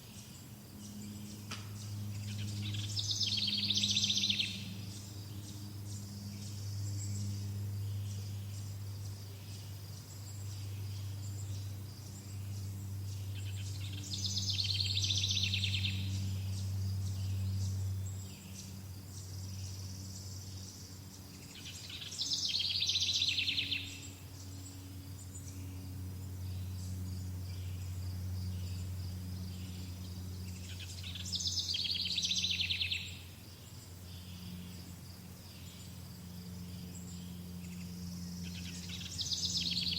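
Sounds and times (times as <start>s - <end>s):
insects chirring: 0.0s - 39.9s
low steady hum: 0.0s - 39.9s.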